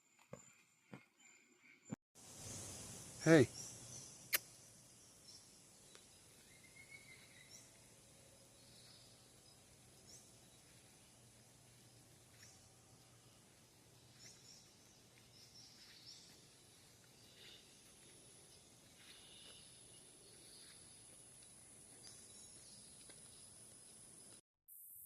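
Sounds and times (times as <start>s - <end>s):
bird chirps: 1.2s - 11.2s, 11.8s - 24.2s.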